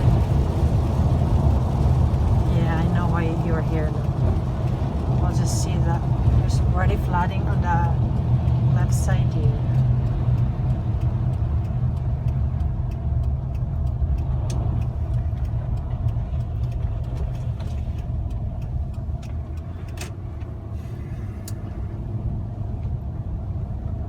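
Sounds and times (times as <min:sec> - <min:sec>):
car cabin road rumble: 0:00.0 - 0:24.0
faint light ticks: 0:03.3 - 0:24.0.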